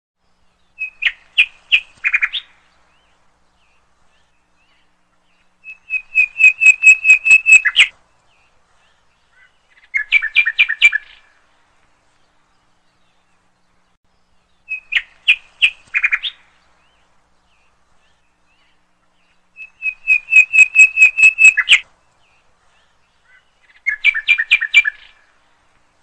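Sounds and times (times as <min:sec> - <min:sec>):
bird chirping: 0:00.2 - 0:25.8.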